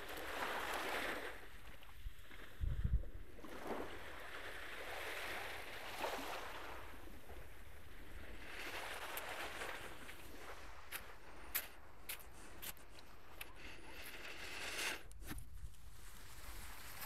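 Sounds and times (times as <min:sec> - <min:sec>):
small waves washing onto sand: 0:00.0 - 0:17.0.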